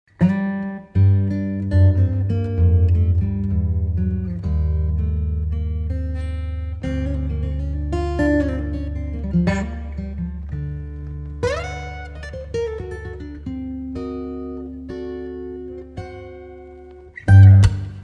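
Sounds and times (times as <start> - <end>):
plucked guitar: 0.1 - 18.0.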